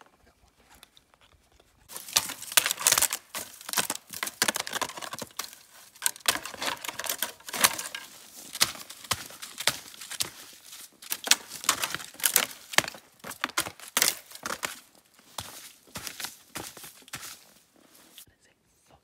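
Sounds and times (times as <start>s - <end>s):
close rustling and crunching: 0.0s - 18.3s.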